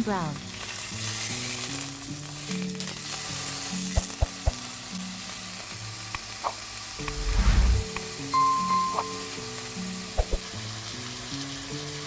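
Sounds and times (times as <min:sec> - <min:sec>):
meat sizzling in frying pan: 0:00.0 - 0:07.0, 0:09.1 - 0:12.0.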